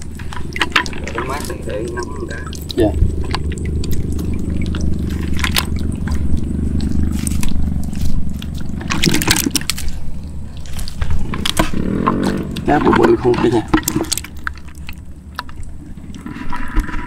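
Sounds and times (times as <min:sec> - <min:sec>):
steady low hum: 0:00.0 - 0:17.0
water sloshing and splashing: 0:00.0 - 0:17.0.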